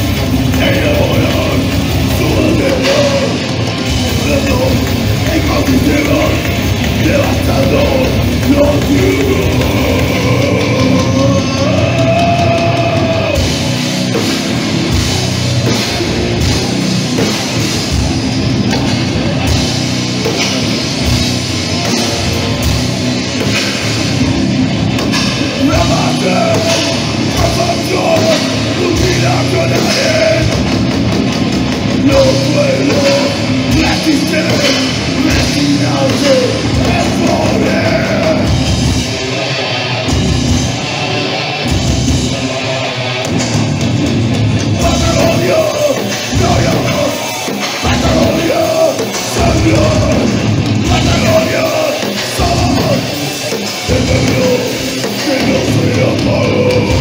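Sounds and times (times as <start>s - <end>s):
heavy metal band playing live: 0.0s - 57.0s.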